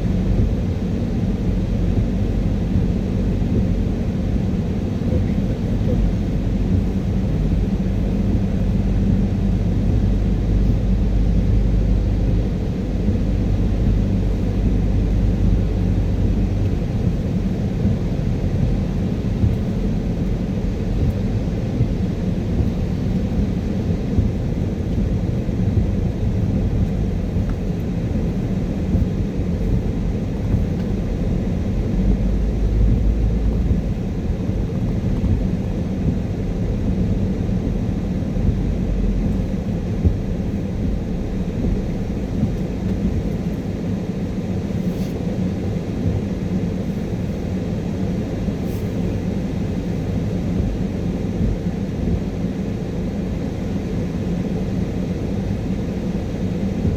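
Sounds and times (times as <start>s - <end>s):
car engine drone: 0.0s - 56.9s
tyres rumbling on wet road: 0.0s - 56.9s.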